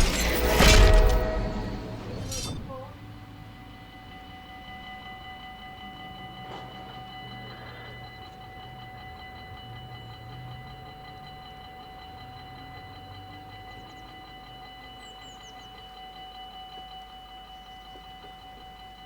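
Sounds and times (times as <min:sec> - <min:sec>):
level crossing bells ringing: 0:00.0 - 0:19.0.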